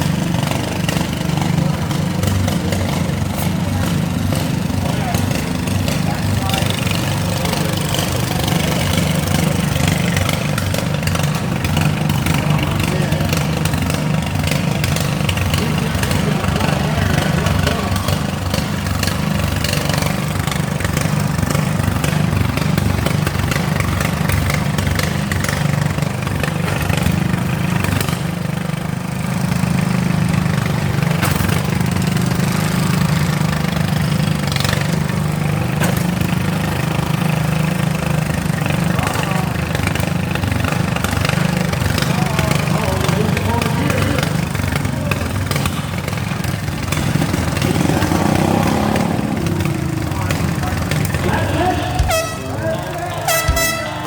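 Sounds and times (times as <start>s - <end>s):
lawn mower engines running: 0.0s - 54.0s.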